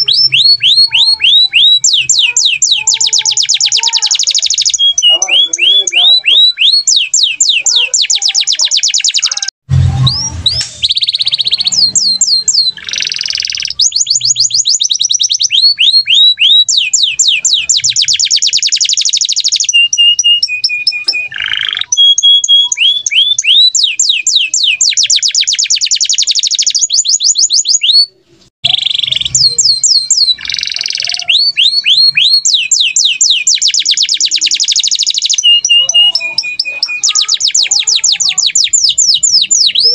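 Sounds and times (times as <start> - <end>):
canary singing in fast trills: 0.0 - 39.9.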